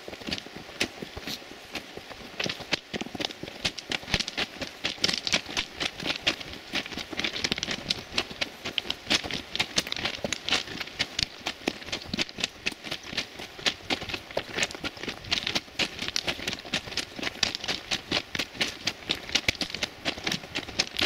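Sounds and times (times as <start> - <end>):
footsteps crunching on gravel ballast: 0.0 - 21.0.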